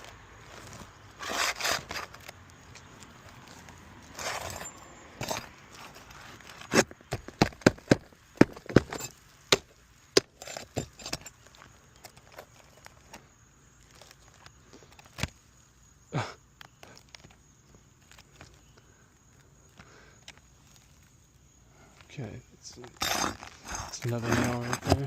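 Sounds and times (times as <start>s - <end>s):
scraping under roof shingles: 0.0s - 15.5s, 16.2s - 25.0s.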